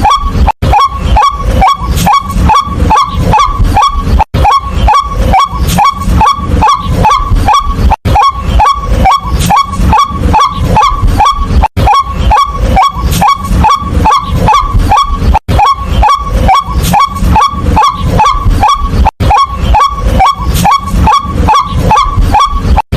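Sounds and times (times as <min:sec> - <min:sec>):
waterhen calling kwak: 0:00.0 - 0:22.8.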